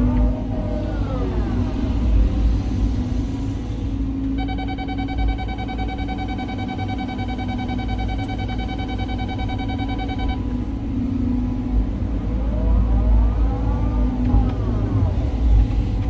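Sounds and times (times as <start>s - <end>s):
excavator diesel engine rumbling: 0.0s - 16.0s
hydraulics whining: 0.0s - 16.0s
steady high whine: 0.0s - 16.0s.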